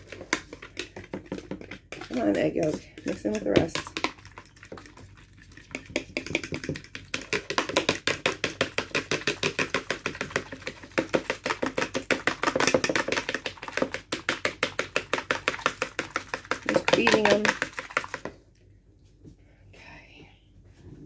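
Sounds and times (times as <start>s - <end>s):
fork whisking eggs in a tray: 0.0s - 18.3s.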